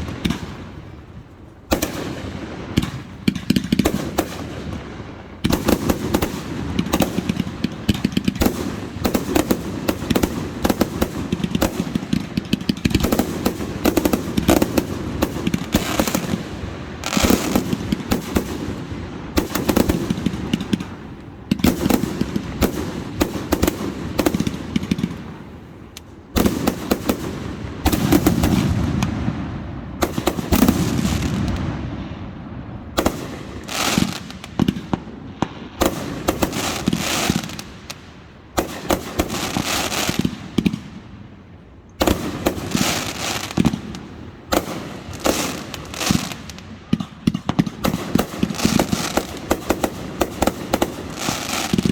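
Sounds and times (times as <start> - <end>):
firework cracks: 1.7 - 31.9, 32.9 - 40.9, 42.0 - 51.9.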